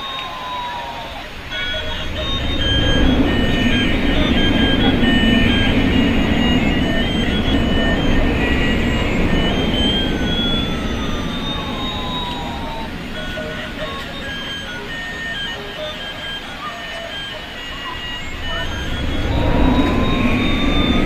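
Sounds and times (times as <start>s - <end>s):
gliding electronic tones: 0.0s - 21.0s
toy jet engine noise: 0.0s - 21.0s
beeping electronic tune: 0.3s - 21.0s.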